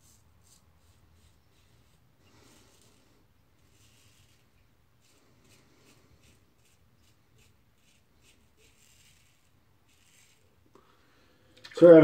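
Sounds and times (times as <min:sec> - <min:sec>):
razor scraping stubble: 0:00.0 - 0:10.6.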